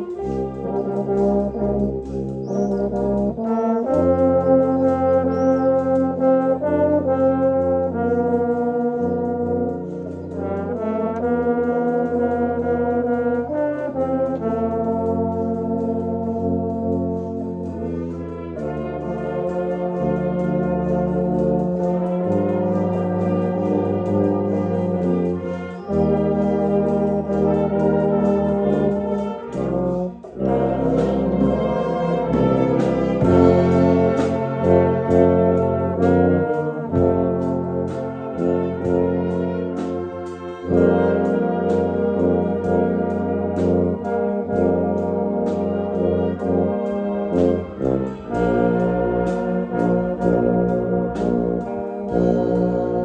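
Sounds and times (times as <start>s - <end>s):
concert band brass chords: 0.0s - 53.0s
tuba bass notes: 0.0s - 53.0s.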